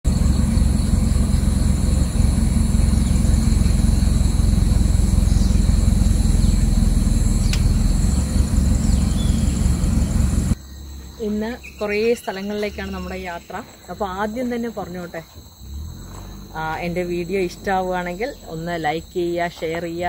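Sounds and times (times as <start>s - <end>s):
moving car rumble: 0.0s - 20.0s.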